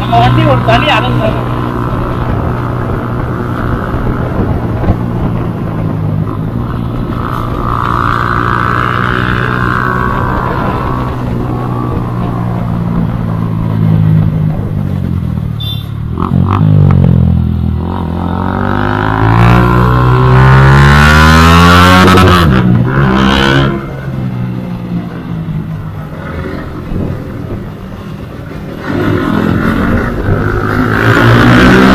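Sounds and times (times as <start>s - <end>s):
motorcycle engine revving: 0.0s - 15.0s, 15.6s - 24.3s, 28.6s - 31.9s.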